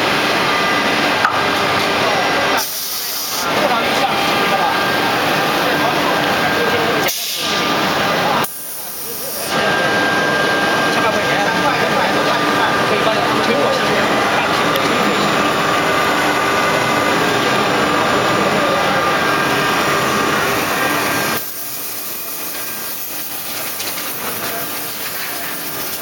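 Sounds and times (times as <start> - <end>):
woodworking machinery running: 0.0 - 26.0.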